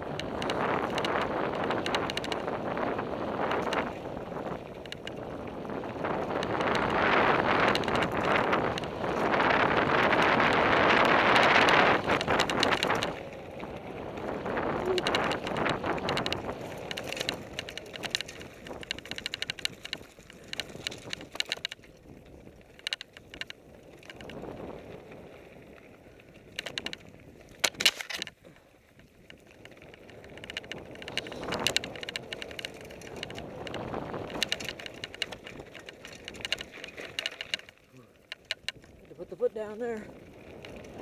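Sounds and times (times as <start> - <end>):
bike clicking and rattling: 0.0 - 41.0
bike tyre and wind noise: 0.0 - 41.0.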